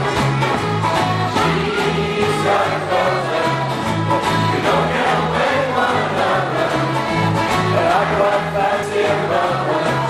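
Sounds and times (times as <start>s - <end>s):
instrumental accompaniment: 0.0s - 10.0s
group singing in unison: 1.2s - 10.0s.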